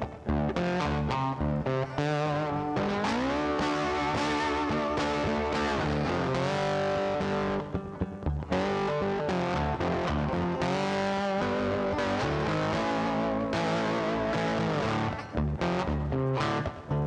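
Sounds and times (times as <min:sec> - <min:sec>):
distorted electric guitar music: 0:00.0 - 0:17.0.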